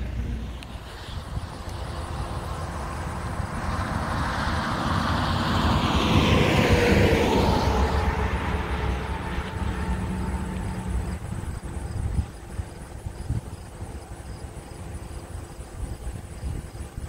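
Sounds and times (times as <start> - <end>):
semi truck passing: 0.0 - 17.0.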